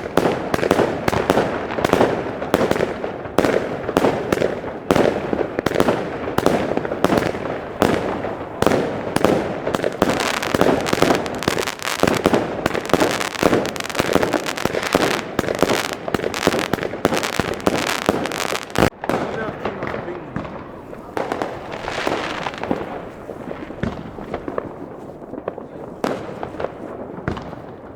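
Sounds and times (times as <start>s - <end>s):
fireworks firing bangs: 0.0s - 27.9s.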